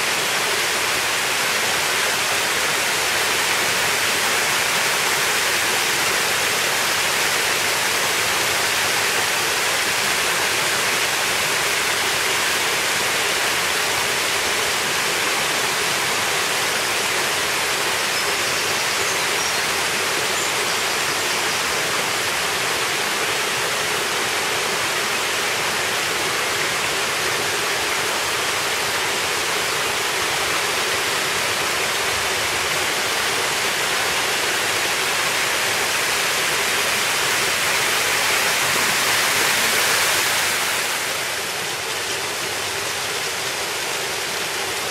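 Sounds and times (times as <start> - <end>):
small waterfall splashing: 0.0 - 44.9.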